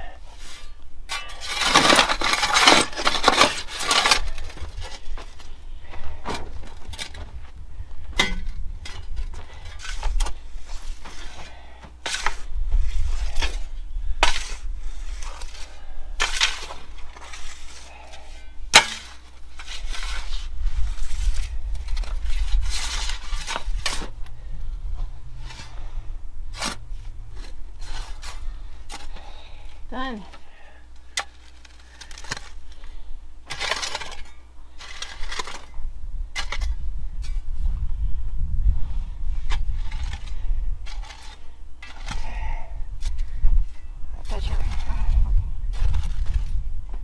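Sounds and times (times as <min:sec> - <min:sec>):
shovels scraping stony dirt: 0:00.0 - 0:37.9, 0:39.3 - 0:47.0.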